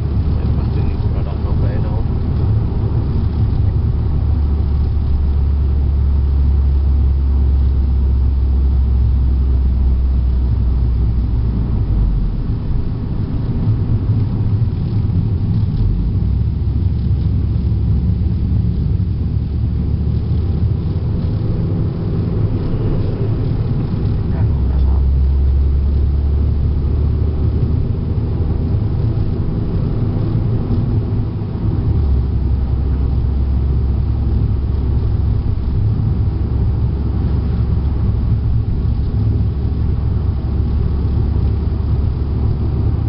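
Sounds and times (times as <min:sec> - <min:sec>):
car engine droning: 0:00.0 - 0:43.0
road and wind rumble: 0:00.0 - 0:43.0.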